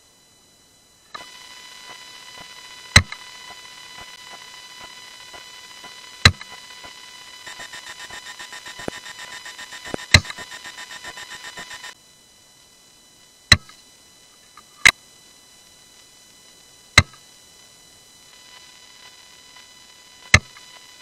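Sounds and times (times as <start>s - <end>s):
pulsing electronic whine: 0.0s - 21.0s.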